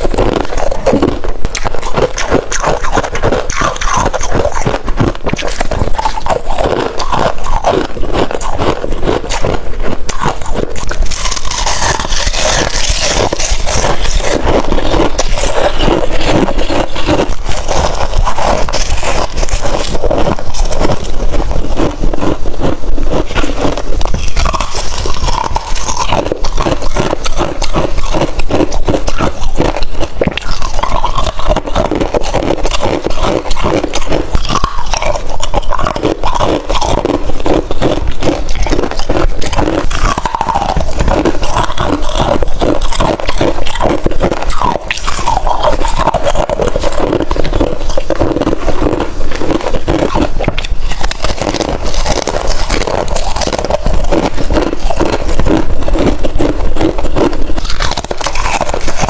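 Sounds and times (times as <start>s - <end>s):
crisp crunching of frost: 0.0s - 59.0s.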